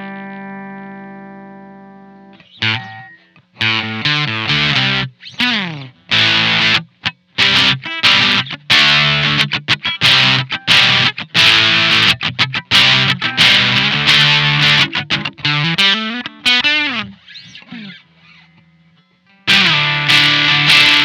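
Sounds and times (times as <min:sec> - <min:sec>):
fuzz electric guitar chords: 0:00.0 - 0:18.0, 0:19.4 - 0:21.0
guitar single-note run: 0:00.0 - 0:21.0.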